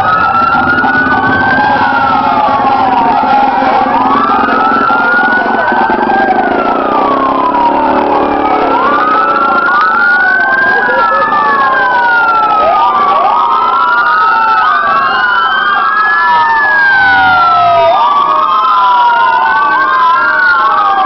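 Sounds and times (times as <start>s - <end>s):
fire truck sirens wailing: 0.0s - 21.0s.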